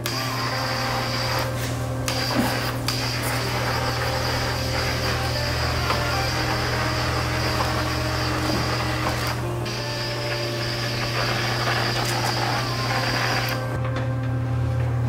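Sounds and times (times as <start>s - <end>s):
air hissing from spray gun: 0.0s - 13.7s
electrical hum: 0.0s - 15.0s.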